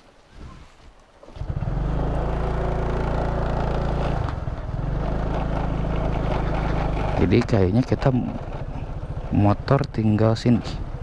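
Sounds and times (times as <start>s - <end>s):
motorbike engine running: 1.3s - 11.0s.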